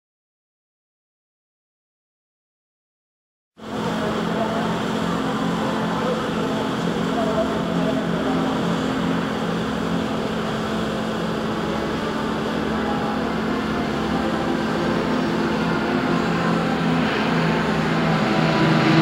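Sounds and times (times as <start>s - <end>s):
propeller aircraft engines droning: 3.6s - 19.0s.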